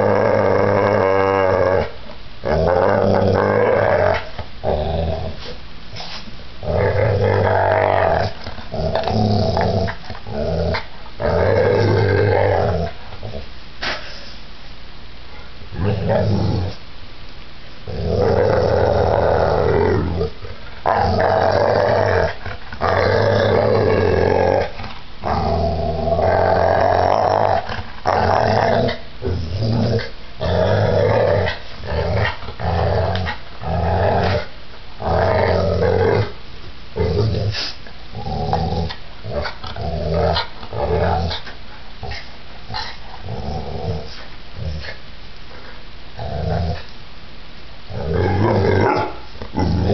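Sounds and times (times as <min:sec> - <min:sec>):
dog growling in play: 0:00.0 - 0:13.5, 0:15.7 - 0:16.8, 0:17.8 - 0:36.4, 0:37.0 - 0:47.0, 0:47.9 - 0:49.9.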